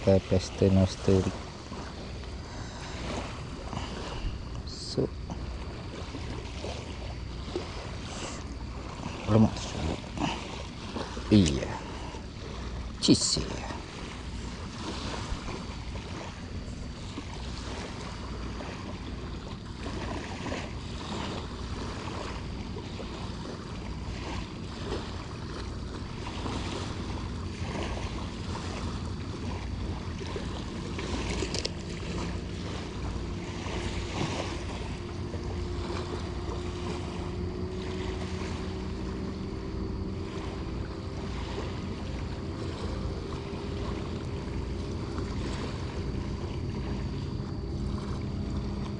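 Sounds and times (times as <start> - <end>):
faint low hum: 0.0 - 48.9
surf washing on beach: 0.0 - 48.9.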